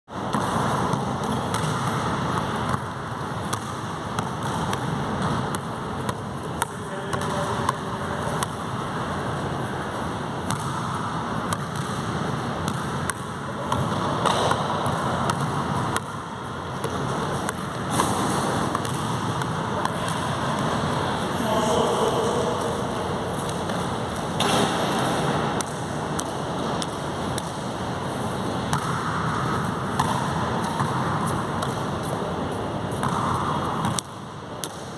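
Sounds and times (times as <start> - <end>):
basketballs bouncing: 0.1 - 34.9
sneakers striking court: 0.2 - 8.7, 9.7 - 27.7, 28.5 - 32.3, 32.9 - 34.9.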